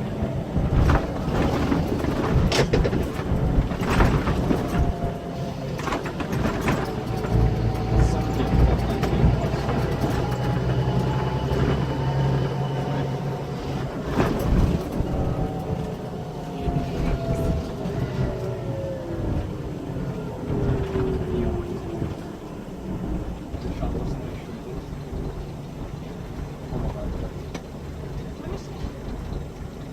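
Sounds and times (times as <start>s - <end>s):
bus engine driving: 0.0s - 29.9s.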